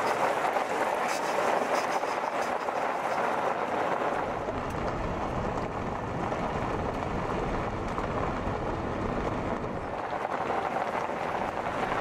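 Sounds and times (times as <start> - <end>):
car tyres on gravel road: 0.0 - 12.0.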